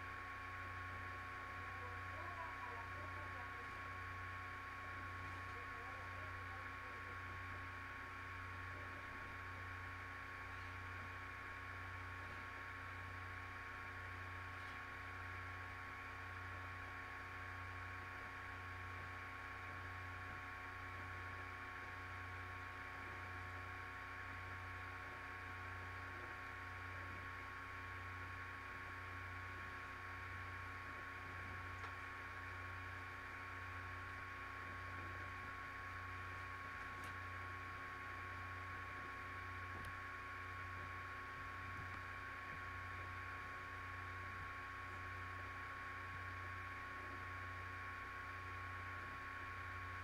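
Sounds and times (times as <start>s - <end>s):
electrical hum and hiss: 0.0s - 50.0s.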